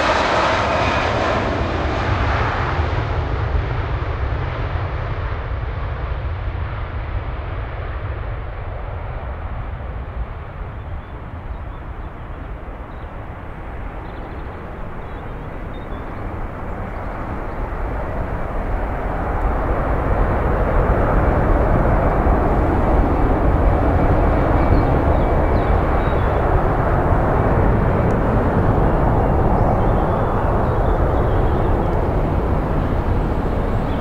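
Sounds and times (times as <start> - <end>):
jet airliner roaring on take-off: 0.0 - 34.0.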